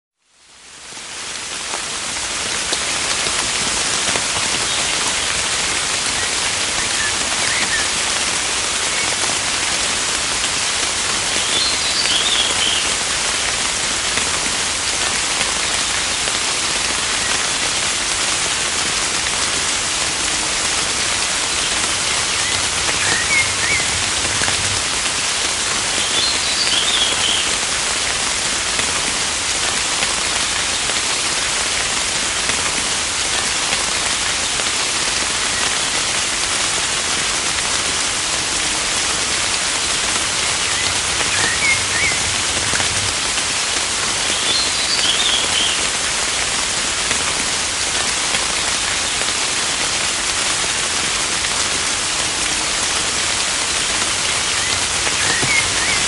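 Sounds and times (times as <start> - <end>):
heavy rain hissing: 0.2 - 56.0.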